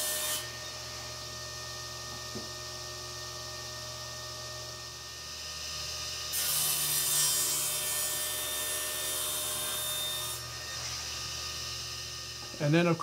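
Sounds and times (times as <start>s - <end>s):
table saw cutting plywood: 0.0s - 13.0s.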